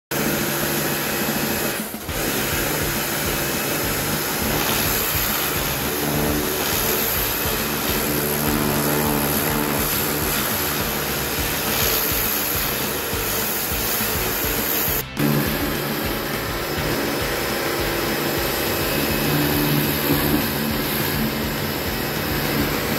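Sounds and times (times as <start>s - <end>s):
pressure washer running: 0.0s - 22.9s
water jet hissing on metal trough: 0.1s - 22.9s.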